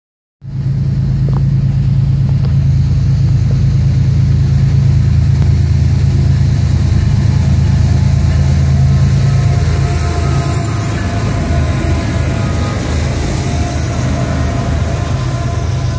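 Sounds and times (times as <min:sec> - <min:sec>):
diesel locomotive engine drone: 0:00.4 - 0:15.9.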